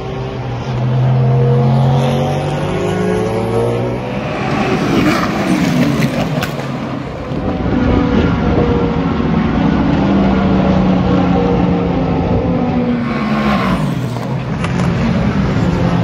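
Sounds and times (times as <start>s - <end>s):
race cars passing at speed: 0.0s - 16.0s.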